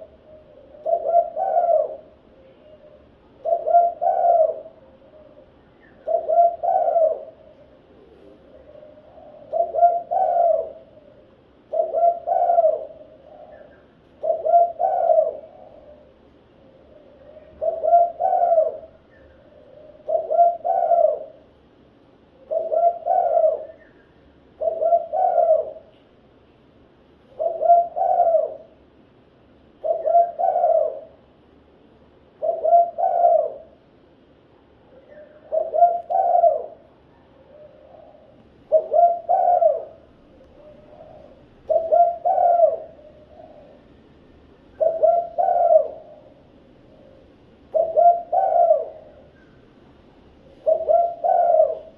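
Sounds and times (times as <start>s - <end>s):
dove cooing: 0.0s - 21.6s, 22.2s - 26.0s, 27.2s - 28.8s, 29.8s - 31.3s, 32.3s - 33.9s, 34.8s - 51.9s.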